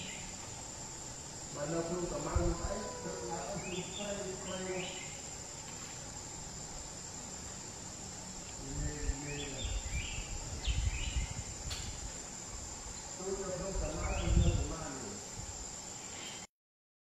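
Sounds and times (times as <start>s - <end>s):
insects chirping: 0.0s - 16.5s.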